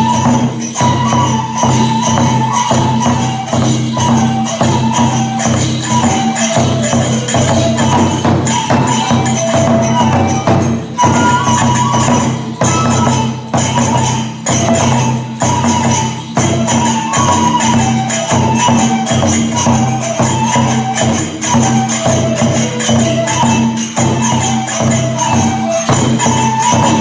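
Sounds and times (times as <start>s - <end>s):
bamboo flute melody: 0.0s - 27.0s
hand cymbals striking: 0.0s - 27.0s
taiko drum beat: 0.0s - 27.0s.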